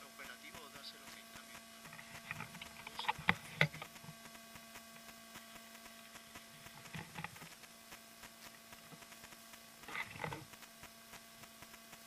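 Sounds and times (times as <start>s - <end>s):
camera electrical hum: 0.0s - 12.0s.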